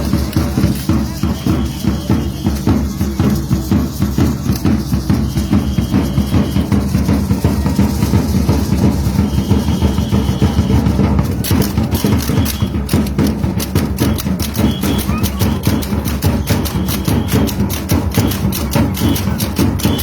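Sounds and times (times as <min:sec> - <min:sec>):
drums beating fast rhythm: 0:00.0 - 0:20.0.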